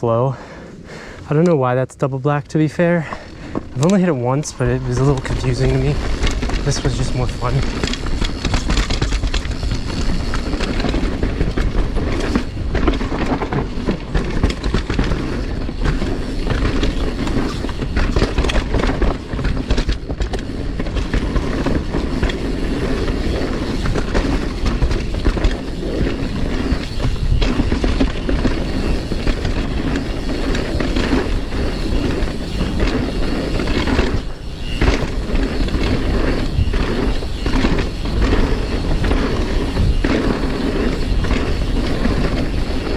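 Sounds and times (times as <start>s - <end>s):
bike rattling and clattering: 2.7s - 42.9s
tyres rushing on dirt: 2.7s - 42.9s.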